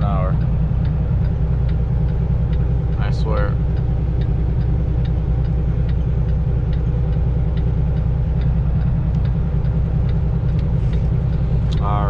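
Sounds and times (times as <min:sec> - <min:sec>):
diesel truck engine rumbling: 0:00.0 - 0:12.0
light regular ticking: 0:00.0 - 0:12.0.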